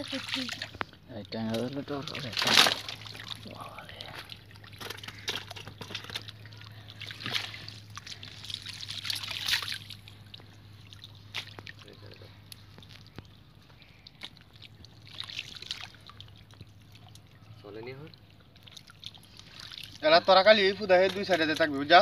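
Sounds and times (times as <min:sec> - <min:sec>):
muddy water splashing: 0:00.0 - 0:22.0.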